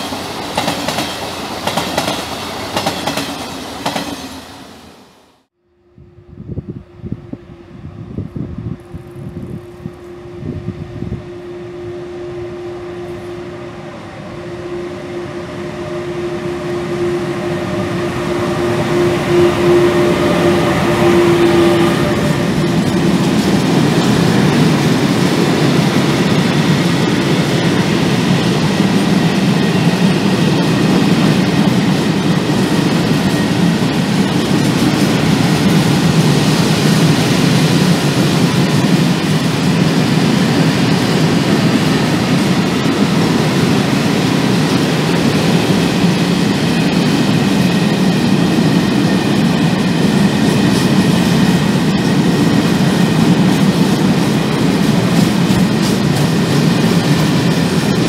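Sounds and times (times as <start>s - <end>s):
train wheels rumbling on rails: 0.0s - 5.5s, 12.8s - 58.0s.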